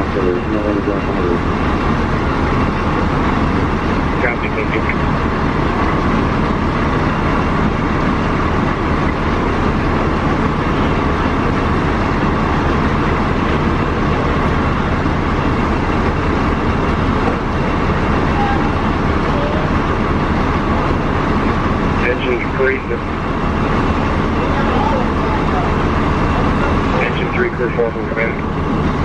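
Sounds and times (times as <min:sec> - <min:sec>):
fire engine engine rumble: 0:00.0 - 0:29.0.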